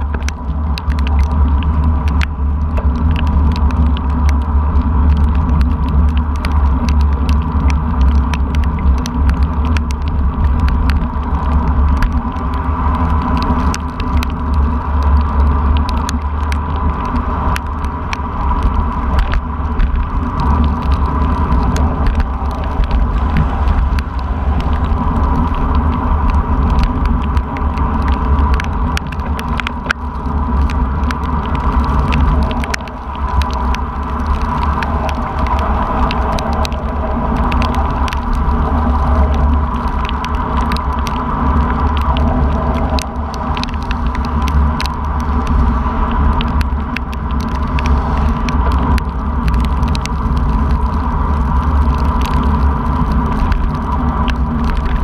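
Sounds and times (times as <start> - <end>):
rain hiss: 0.0 - 55.0
raindrops tapping on camera: 0.0 - 55.0
wind rumble on microphone: 0.0 - 55.0.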